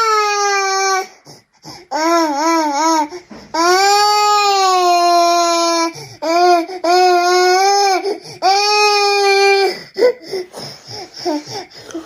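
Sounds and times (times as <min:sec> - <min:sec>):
toddler crying: 0:00.0 - 0:01.2, 0:01.9 - 0:12.0.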